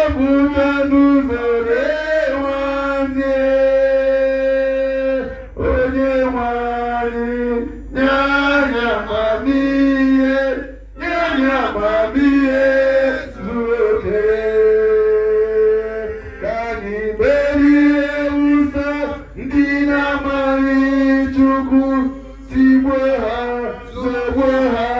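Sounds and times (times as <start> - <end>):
man chanting into microphone: 0.0 - 24.9.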